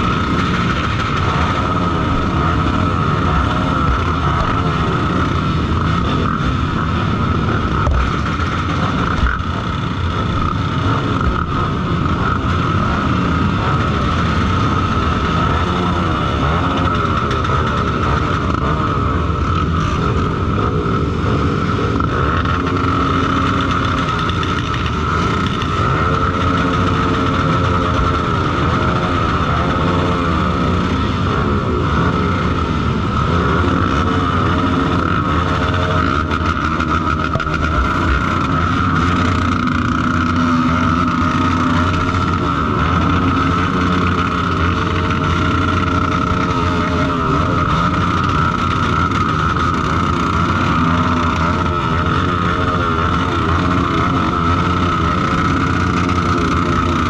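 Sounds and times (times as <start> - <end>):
motorcycle engine revving: 0.0 - 57.0
steady high whine: 0.0 - 57.0.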